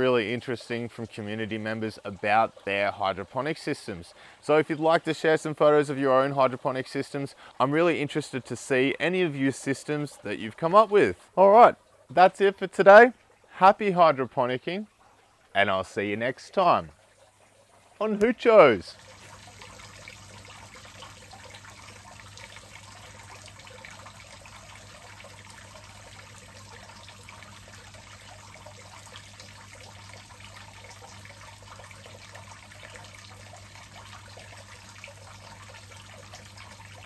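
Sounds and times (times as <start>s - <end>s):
water streams trickling onto pebbles: 0.0s - 37.0s.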